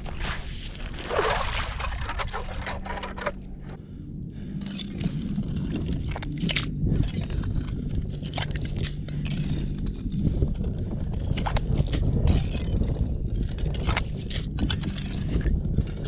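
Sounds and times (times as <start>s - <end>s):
ice auger grinding: 0.1s - 3.8s, 4.6s - 16.0s
metal scoop scraping ice: 0.2s - 3.7s, 4.6s - 7.6s, 8.2s - 9.9s, 11.2s - 16.0s.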